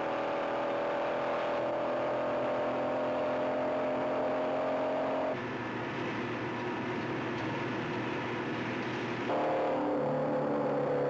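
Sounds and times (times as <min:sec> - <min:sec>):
car engine whining at high speed: 0:00.0 - 0:11.0
road noise: 0:00.0 - 0:11.0.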